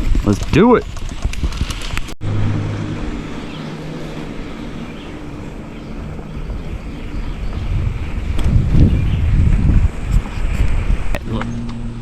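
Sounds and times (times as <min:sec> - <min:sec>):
bicycles riding on pavement: 0:00.0 - 0:12.0
wind on microphone: 0:00.0 - 0:12.0.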